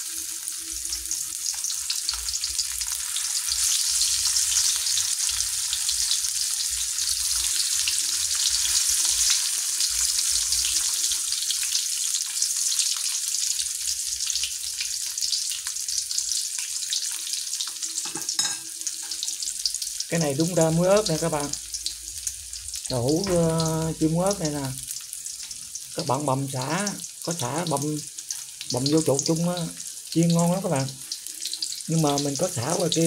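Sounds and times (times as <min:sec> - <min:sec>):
tofu sizzling in hot oil: 0:00.0 - 0:33.0.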